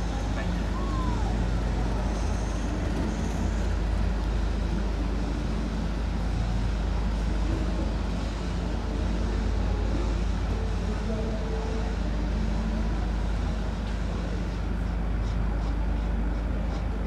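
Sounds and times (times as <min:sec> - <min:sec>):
diesel railcar engine drone: 0:00.0 - 0:17.0.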